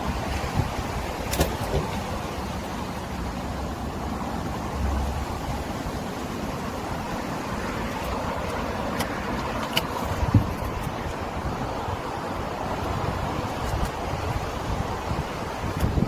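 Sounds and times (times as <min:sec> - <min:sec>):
road traffic passing: 0:00.0 - 0:16.0
wind rumbling on microphone: 0:00.0 - 0:16.0.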